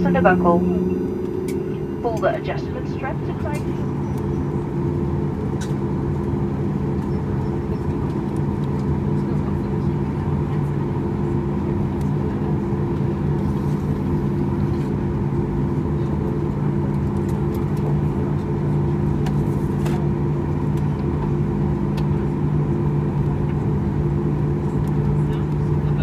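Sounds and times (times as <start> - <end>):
aircraft engines idling hum: 0.0 - 26.0.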